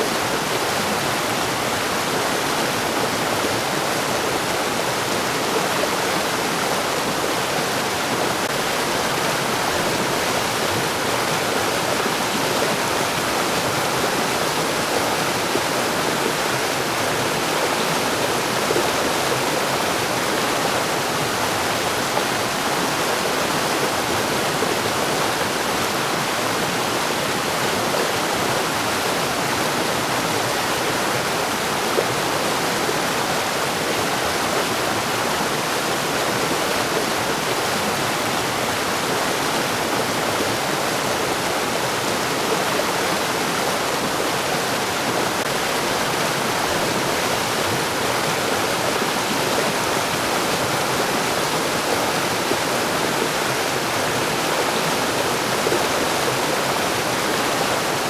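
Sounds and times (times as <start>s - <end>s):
mountain stream rushing over rocks: 0.0s - 58.0s.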